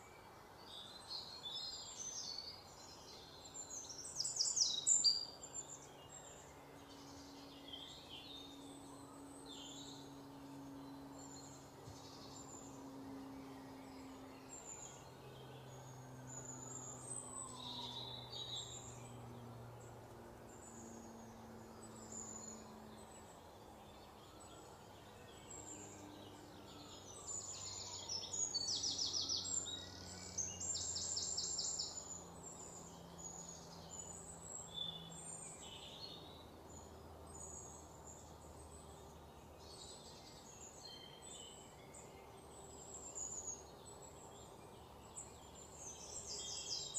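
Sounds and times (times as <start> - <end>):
faint low steady hum: 0.0 - 46.9
wild birds chirping: 0.0 - 46.9.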